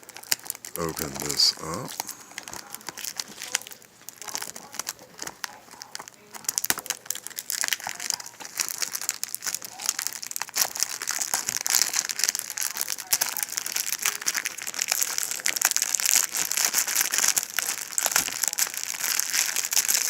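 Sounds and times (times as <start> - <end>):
plastic wrap crinkling and tearing: 0.0 - 20.0.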